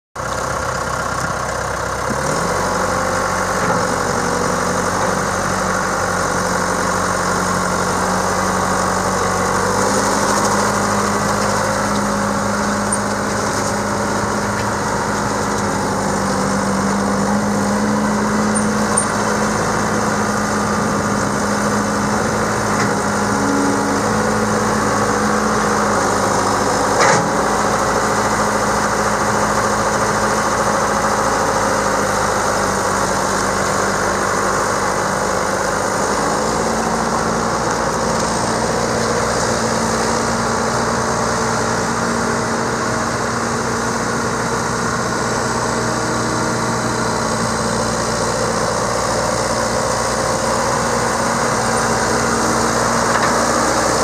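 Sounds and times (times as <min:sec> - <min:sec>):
tractor diesel engine idling: 0:00.2 - 0:54.0.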